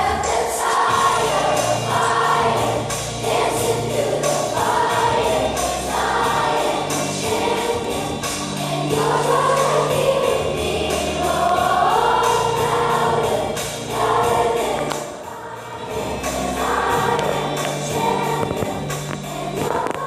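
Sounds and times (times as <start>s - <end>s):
children's choir singing in unison: 0.0s - 20.0s.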